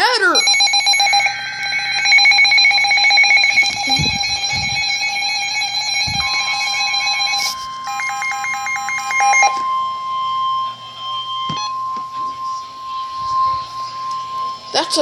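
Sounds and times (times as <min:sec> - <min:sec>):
buzzy alert tone: 0:00.0 - 0:15.0
high warning tone: 0:00.0 - 0:15.0
warbling digital data burst: 0:00.0 - 0:15.0.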